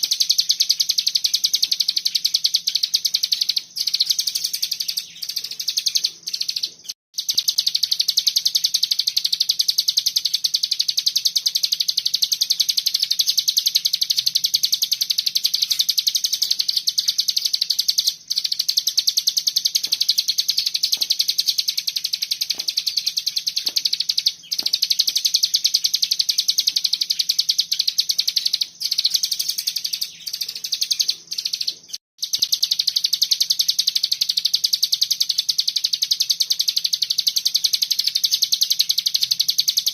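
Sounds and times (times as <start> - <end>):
songbird high-pitched trill: 0.0 - 39.9.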